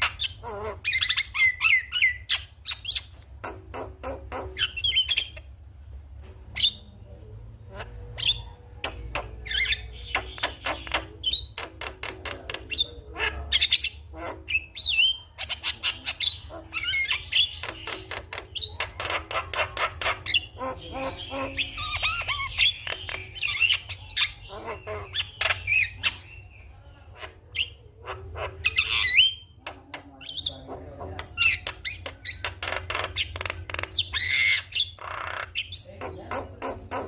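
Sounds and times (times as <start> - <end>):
myna bird chattering: 0.0 - 5.6, 6.5 - 37.0.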